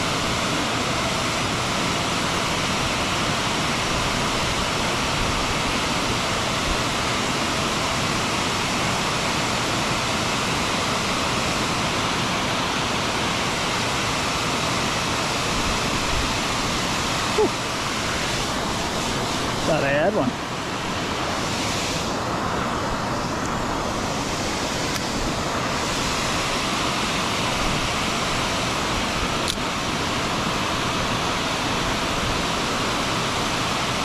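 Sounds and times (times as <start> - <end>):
fast creek water rushing: 0.0 - 34.0.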